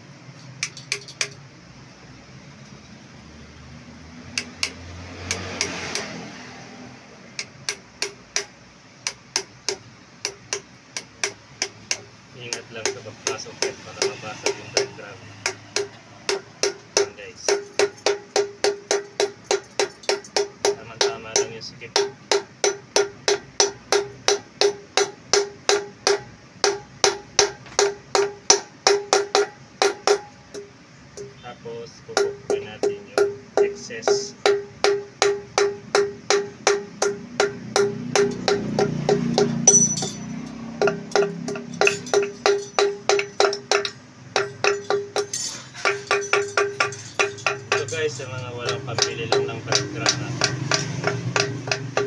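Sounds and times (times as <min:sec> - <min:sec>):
hammer tapping on metal: 0:00.6 - 0:01.4, 0:04.3 - 0:06.2, 0:07.4 - 0:31.4, 0:32.1 - 0:52.0.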